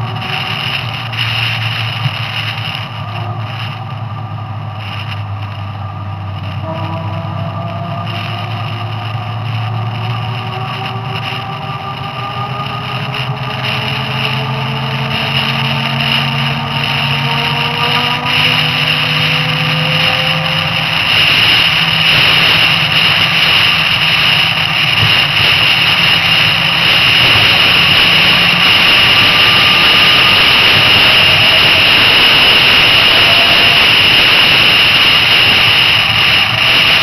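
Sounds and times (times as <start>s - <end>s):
electric motor whining: 0.0s - 37.0s
wind and tyre noise: 0.0s - 37.0s.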